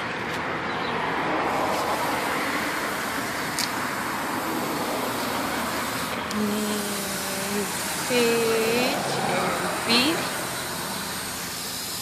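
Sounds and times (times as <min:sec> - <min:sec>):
outdoor background hiss: 0:00.4 - 0:12.0.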